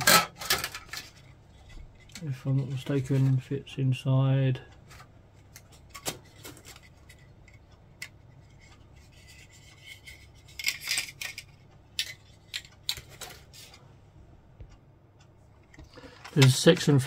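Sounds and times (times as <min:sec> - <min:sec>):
plastic parts clicking and rubbing: 0:00.0 - 0:03.5, 0:04.7 - 0:13.8, 0:15.6 - 0:17.0.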